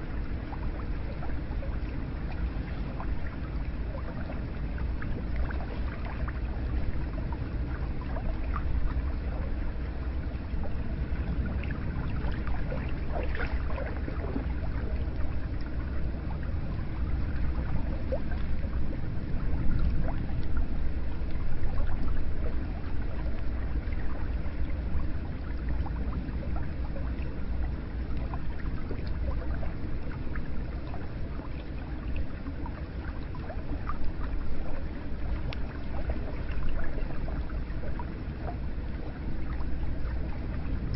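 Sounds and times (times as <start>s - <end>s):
drips and gurgles: 0.0s - 40.9s
low rumble: 0.0s - 40.9s.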